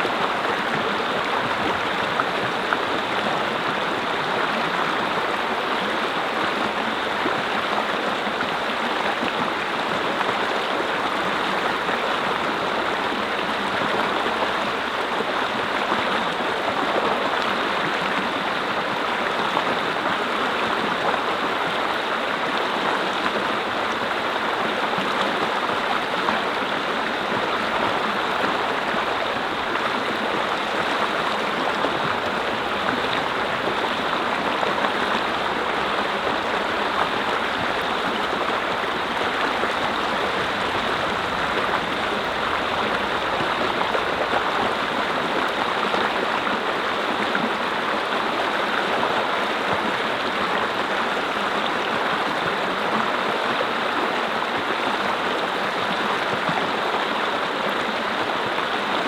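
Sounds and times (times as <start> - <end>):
brook flowing over rocks: 0.0 - 59.0.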